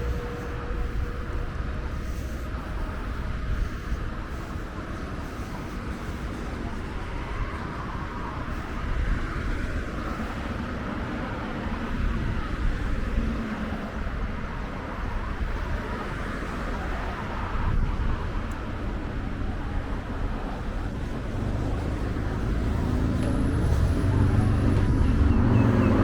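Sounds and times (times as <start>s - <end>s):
road traffic rumble: 0.0s - 26.0s
vehicle engine: 0.0s - 26.0s.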